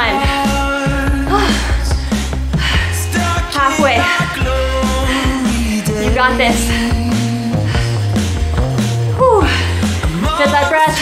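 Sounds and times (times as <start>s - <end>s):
pop music with singing: 0.0s - 11.0s.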